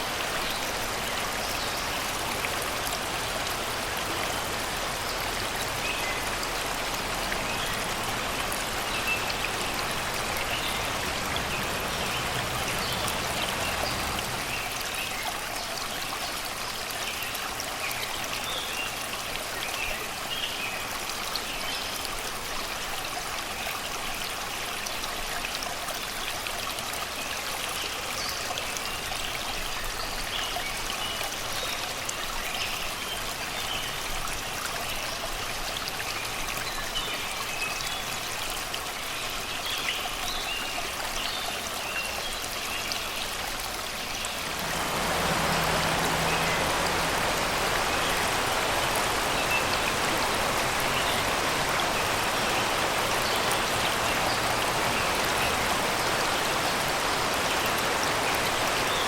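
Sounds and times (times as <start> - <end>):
river flowing over rocks: 0.0 - 59.0.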